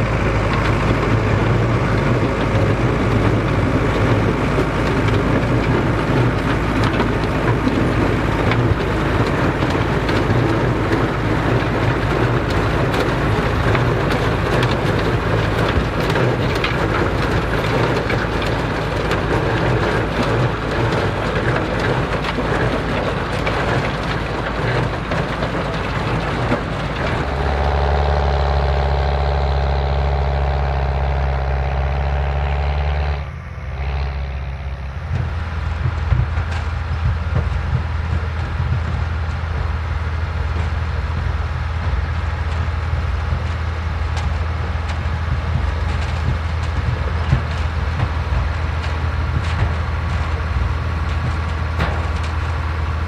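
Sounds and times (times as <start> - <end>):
tractor engines running: 0.0 - 53.0.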